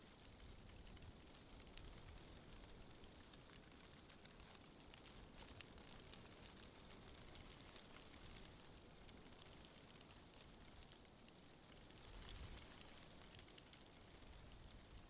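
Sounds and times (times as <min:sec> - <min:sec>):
faint wind and rustle: 0:00.0 - 0:15.0
light crackles and ticks: 0:00.0 - 0:15.0.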